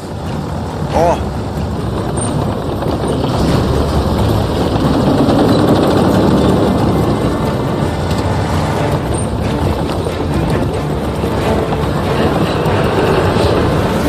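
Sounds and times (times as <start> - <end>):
bulldozer diesel engine under load: 0.0 - 14.0.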